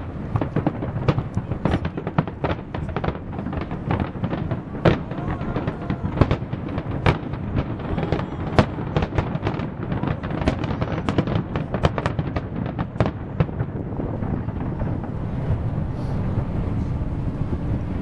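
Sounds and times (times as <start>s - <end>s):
fireworks cracks and bangs: 0.0s - 16.4s
low rumble: 0.0s - 18.0s.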